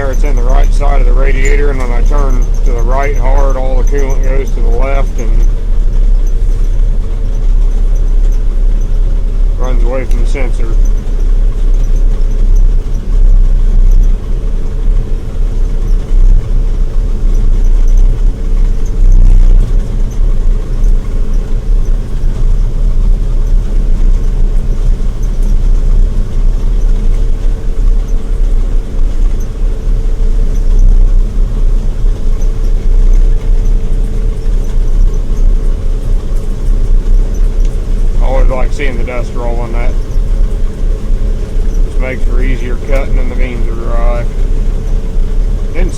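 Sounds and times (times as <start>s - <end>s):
combine harvester engine drone: 0.0s - 45.9s
constant hum: 0.0s - 45.9s.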